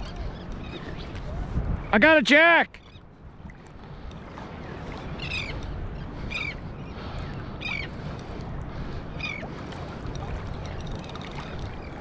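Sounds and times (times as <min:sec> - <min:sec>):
wind and water rushing: 0:00.0 - 0:12.0.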